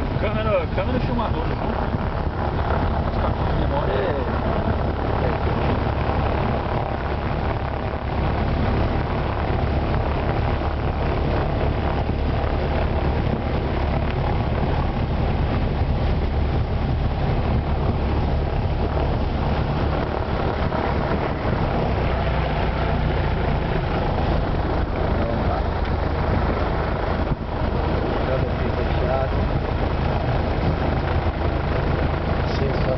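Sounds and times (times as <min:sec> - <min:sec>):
light aircraft engine droning: 0:00.0 - 0:32.9.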